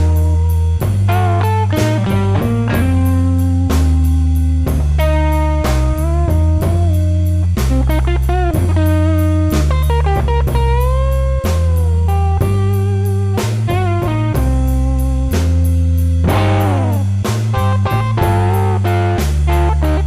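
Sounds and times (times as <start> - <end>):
bass: 0.0 - 20.0
drum beat: 0.0 - 20.0
electric guitar lead: 0.0 - 20.0.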